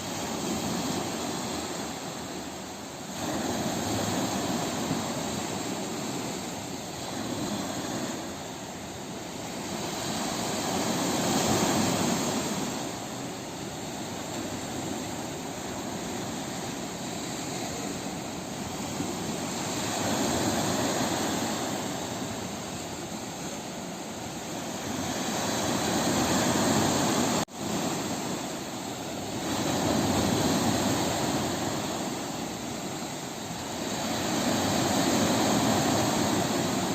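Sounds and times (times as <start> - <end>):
sea waves breaking on beach: 0.0 - 36.9.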